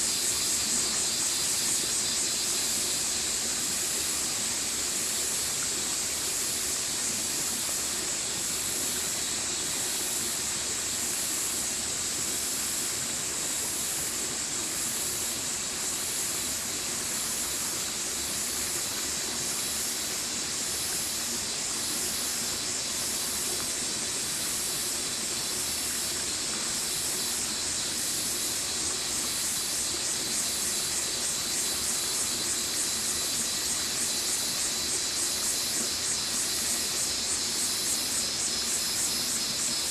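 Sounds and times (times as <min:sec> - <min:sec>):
high-pitched hiss: 0:00.0 - 0:39.9
stream water running: 0:00.0 - 0:39.9.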